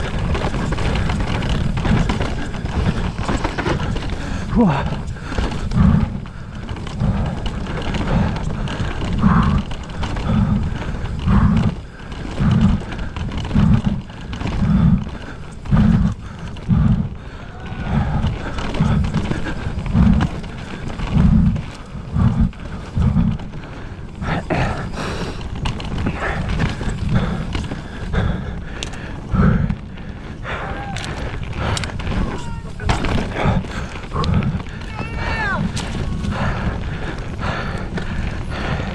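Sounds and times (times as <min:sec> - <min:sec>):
bike rattling over dirt trail: 0:00.0 - 0:38.9
low rumbling wind gusts: 0:00.0 - 0:38.9.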